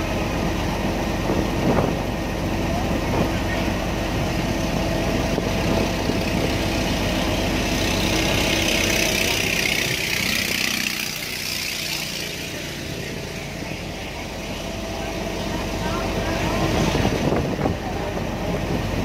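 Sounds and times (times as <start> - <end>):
ferry engine running: 0.0 - 19.0
speedboat passing: 0.0 - 19.0.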